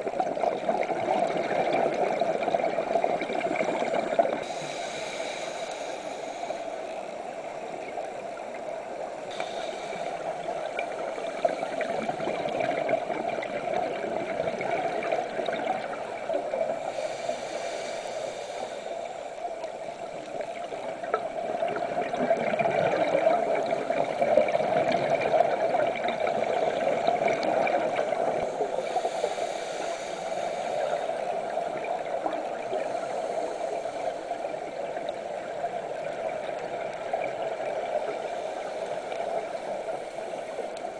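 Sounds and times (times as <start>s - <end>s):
underwater gurgling and bubbling: 0.0s - 40.9s.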